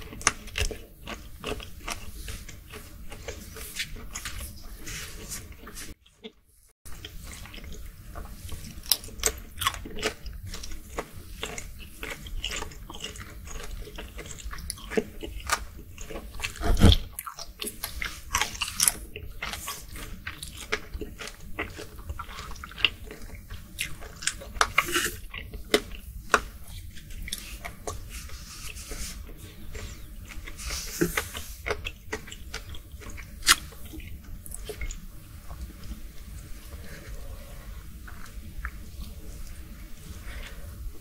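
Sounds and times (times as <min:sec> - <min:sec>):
person chewing shrimp: 0:00.0 - 0:41.0.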